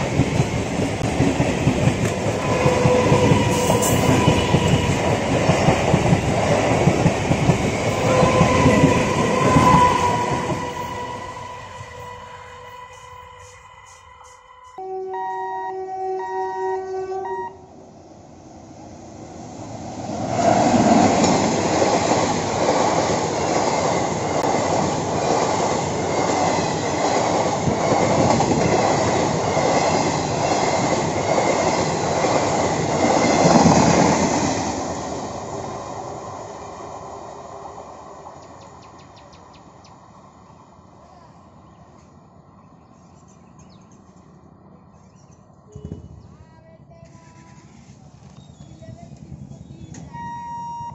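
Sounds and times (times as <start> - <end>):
train passing at speed: 0.0 - 50.9.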